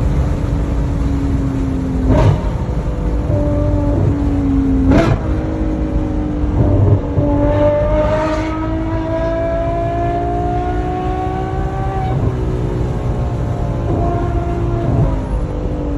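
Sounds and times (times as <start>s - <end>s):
car engine accelerating: 0.0s - 15.9s.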